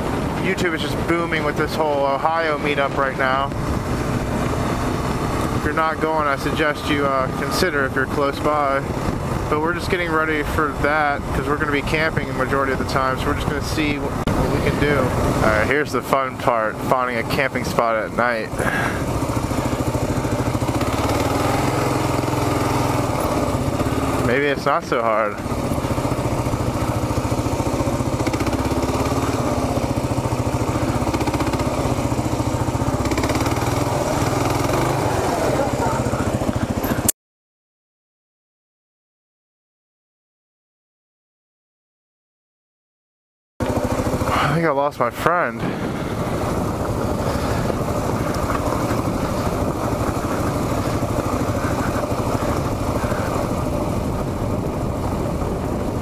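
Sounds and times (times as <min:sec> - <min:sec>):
motorcycle engine running: 0:00.0 - 0:37.2, 0:43.6 - 0:56.0.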